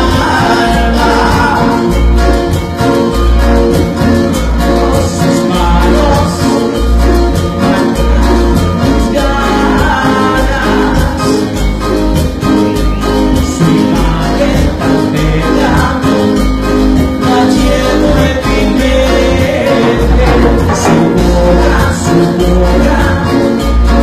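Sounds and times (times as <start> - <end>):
cumbia band playing live: 0.0 - 24.0.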